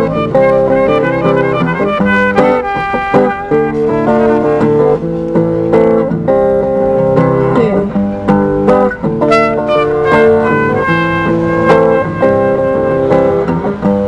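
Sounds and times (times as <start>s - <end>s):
guitar plucking and strumming: 0.0s - 14.0s.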